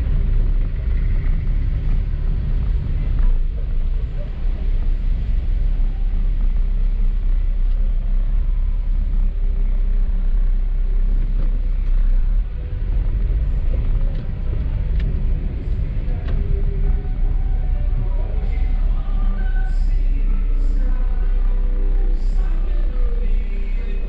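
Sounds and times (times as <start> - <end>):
car driving on wet road: 0.0 - 24.0.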